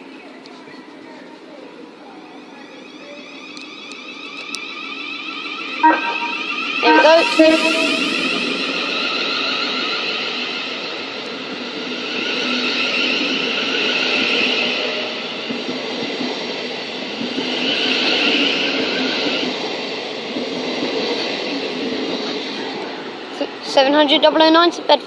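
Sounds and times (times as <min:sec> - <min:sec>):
wheels rumbling on rails: 0:00.0 - 0:25.0
electric train traction whine: 0:01.9 - 0:24.5.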